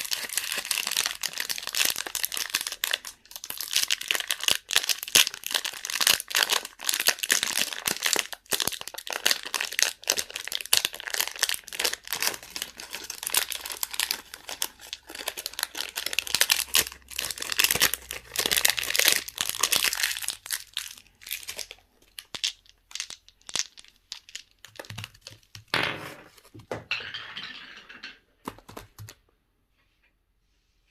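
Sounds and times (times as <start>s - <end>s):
plastic wrappers crinkling and tearing: 0.0s - 25.7s.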